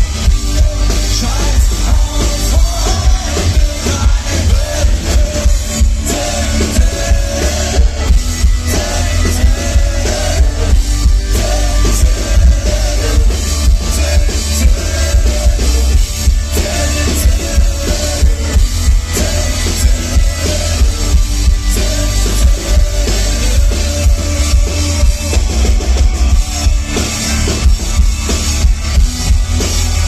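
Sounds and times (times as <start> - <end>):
person singing: 0.0 - 27.5
live rock band playing: 0.0 - 30.0.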